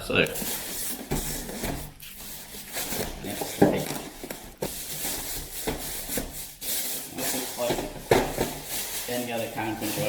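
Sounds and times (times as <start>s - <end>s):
paper rustling: 0.2s - 10.0s.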